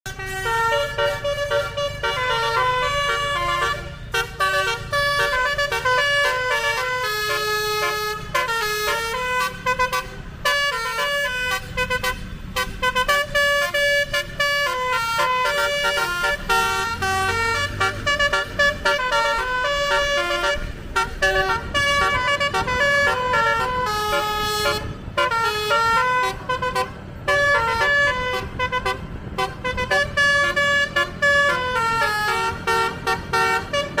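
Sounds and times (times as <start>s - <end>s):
bus horn playing melody: 0.0s - 34.0s.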